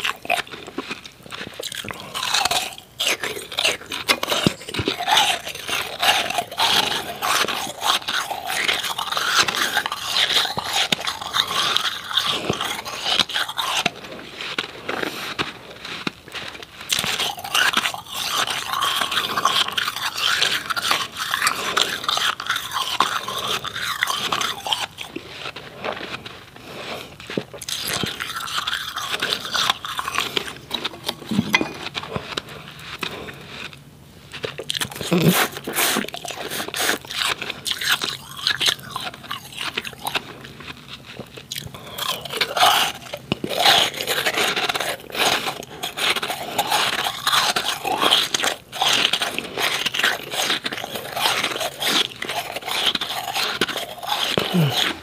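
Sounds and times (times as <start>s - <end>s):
person crunching ice: 0.0s - 55.0s.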